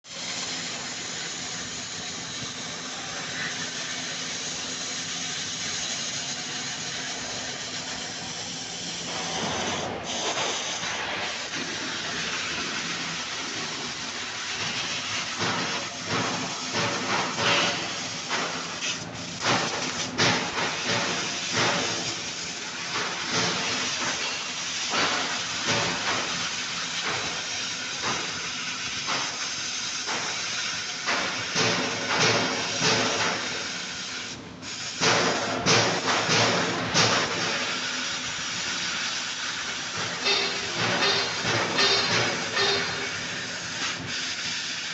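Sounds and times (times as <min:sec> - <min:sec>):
laser cutter air hiss: 0:00.1 - 0:44.9.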